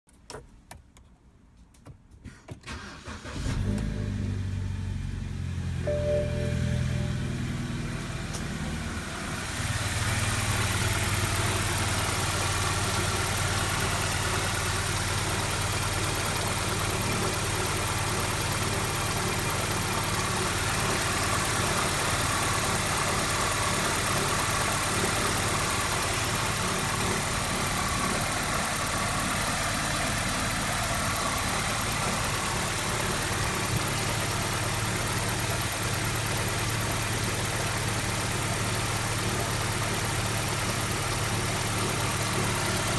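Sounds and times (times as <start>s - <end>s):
car engine idling: 4.0s - 42.9s.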